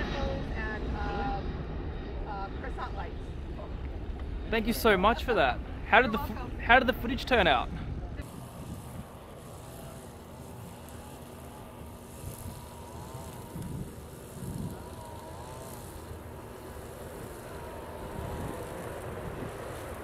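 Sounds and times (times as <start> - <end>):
faint wavering whine: 0.0 - 20.0
jet engines rumbling: 0.0 - 20.0.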